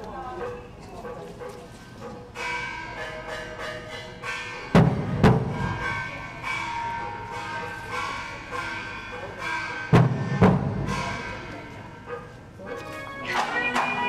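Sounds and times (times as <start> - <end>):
heavy drum beats: 0.3 - 12.6
ringing metal gong strikes: 2.4 - 14.0.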